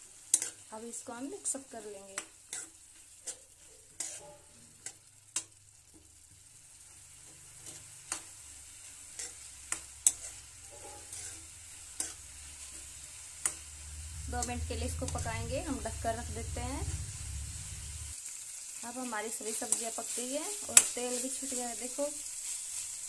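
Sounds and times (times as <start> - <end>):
steel spoon scraping a pan: 0.0 - 0.7, 1.4 - 6.0, 6.7 - 18.2, 19.4 - 23.0
faint frying sizzle: 0.0 - 23.0.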